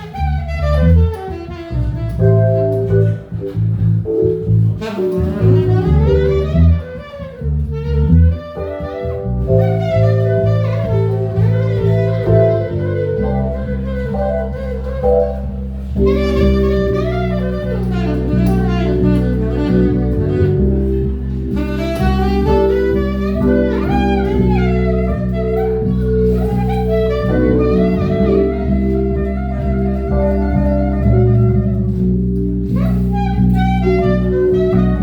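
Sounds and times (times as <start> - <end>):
held bass notes: 0.0 - 35.0
saxophone melody: 0.0 - 35.0.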